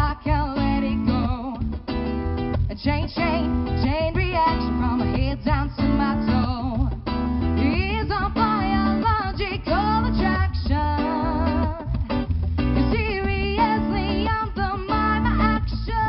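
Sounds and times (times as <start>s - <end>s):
woman singing: 0.0s - 1.7s, 2.6s - 12.1s, 12.8s - 16.0s
acoustic guitar: 0.0s - 16.0s
electric bass guitar: 0.0s - 16.0s.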